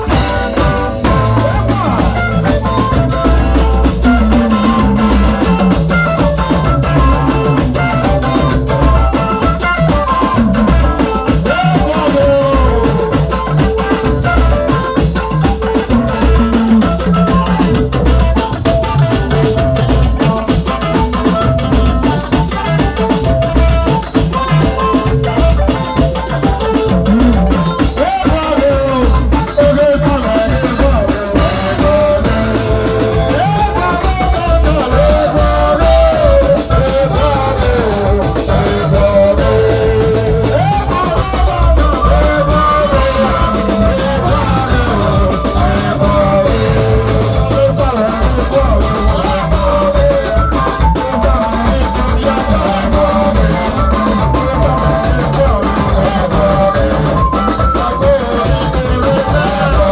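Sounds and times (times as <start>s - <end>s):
drum kit beat: 0.0s - 59.9s
electric guitar: 0.0s - 59.9s.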